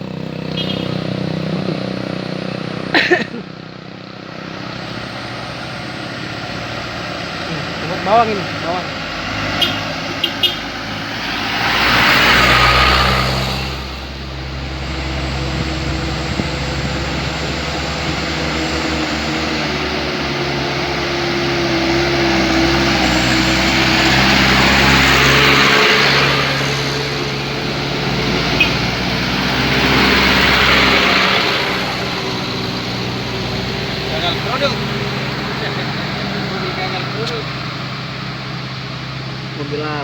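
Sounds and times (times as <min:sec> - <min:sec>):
low engine hum: 0:00.0 - 0:40.0
passing traffic: 0:00.0 - 0:40.0.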